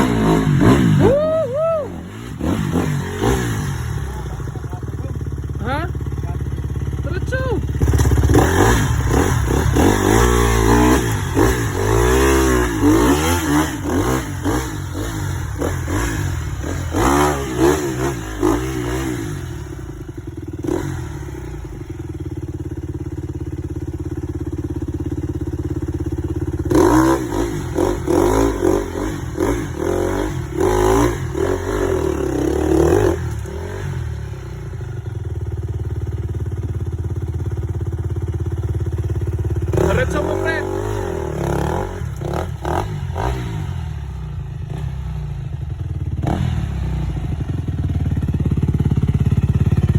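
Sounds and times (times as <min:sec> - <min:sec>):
dirt bike engine revving: 0:00.0 - 0:22.2, 0:25.8 - 0:35.1, 0:38.9 - 0:45.3, 0:46.1 - 0:49.9.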